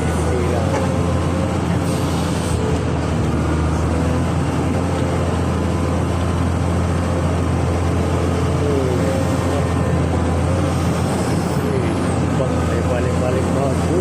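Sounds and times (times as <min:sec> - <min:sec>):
excavator engine drone: 0:00.0 - 0:14.0.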